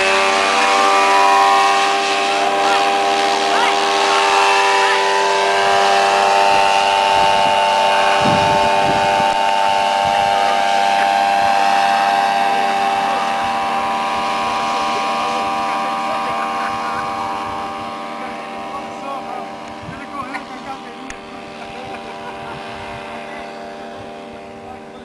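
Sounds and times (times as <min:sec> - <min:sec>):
paramotor engine drone: 0:00.0 - 0:25.0.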